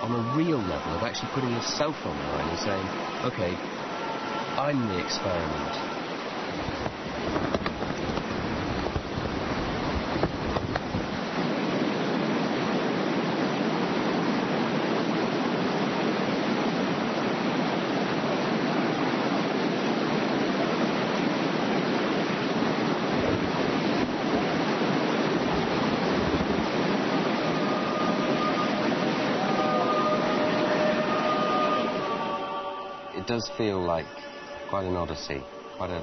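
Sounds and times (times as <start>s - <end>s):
river rapids rushing: 0.0s - 36.0s.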